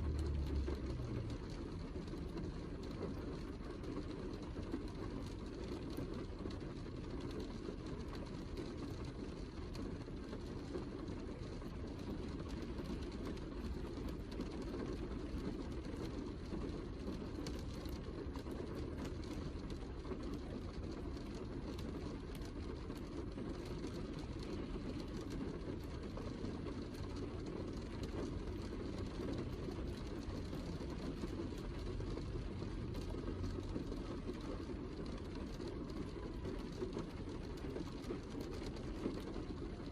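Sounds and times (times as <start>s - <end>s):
heavy rain: 0.0s - 39.9s
ticks of raindrops: 0.0s - 39.9s.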